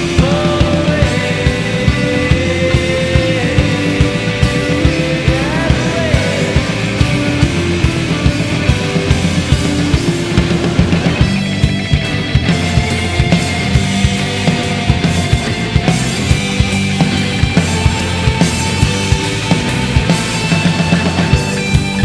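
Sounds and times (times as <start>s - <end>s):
electric bass: 0.0s - 22.0s
electric guitars: 0.0s - 22.0s
steady drum beat: 0.0s - 22.0s.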